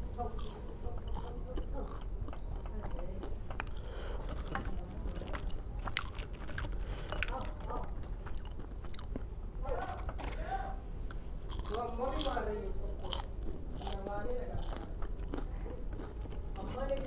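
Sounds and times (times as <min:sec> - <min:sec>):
person chewing food: 0:00.0 - 0:10.2, 0:11.0 - 0:17.0.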